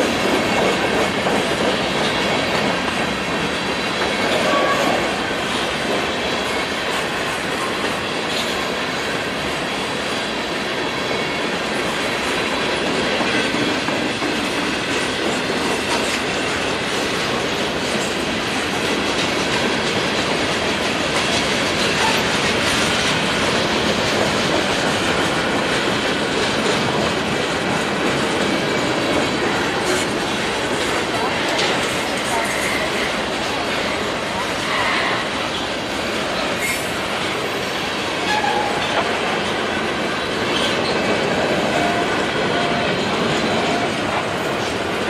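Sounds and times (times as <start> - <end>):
freight train wheels rumbling: 0.0 - 45.0.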